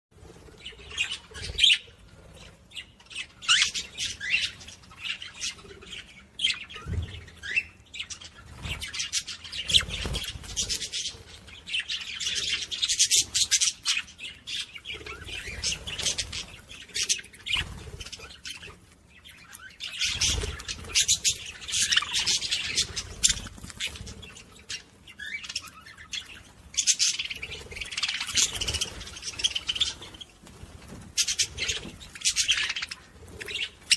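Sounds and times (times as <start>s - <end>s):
cage birds chirping and squawking: 0.2s - 33.9s.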